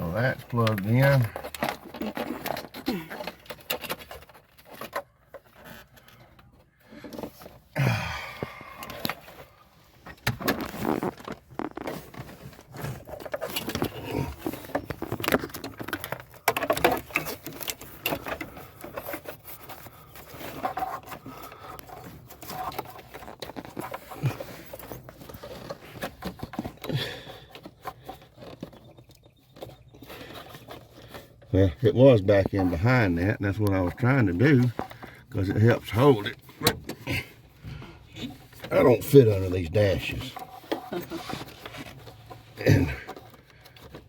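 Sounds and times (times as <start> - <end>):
hands scraping and rustling parts: 0.0 - 44.0.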